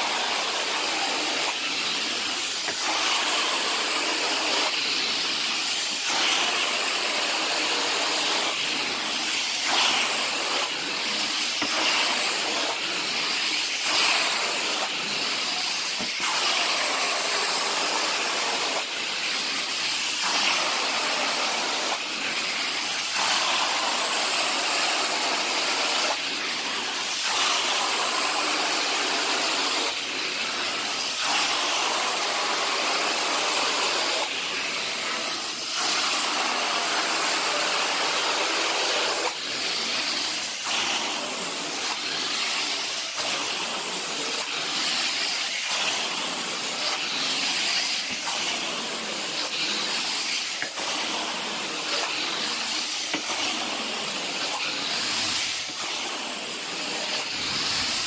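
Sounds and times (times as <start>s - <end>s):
carpet extraction wand suction hiss: 0.0s - 58.0s.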